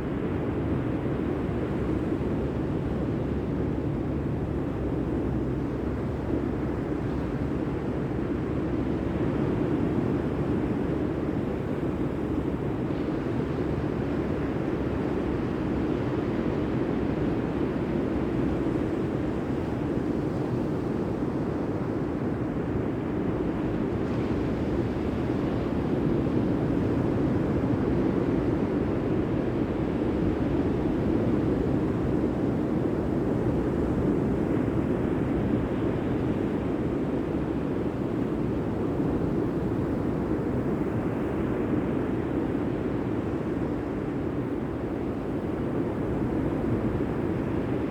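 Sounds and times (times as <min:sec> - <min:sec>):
sea: 0:00.0 - 0:47.9
wind: 0:00.0 - 0:47.9.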